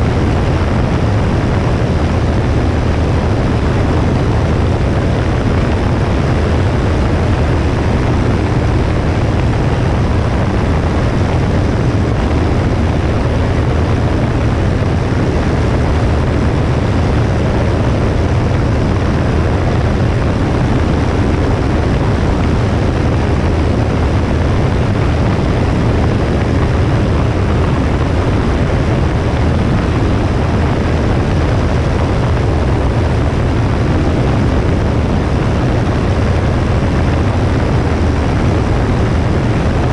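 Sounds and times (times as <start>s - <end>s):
light aircraft engine running: 0.0s - 39.9s
wind rushing: 0.0s - 39.9s.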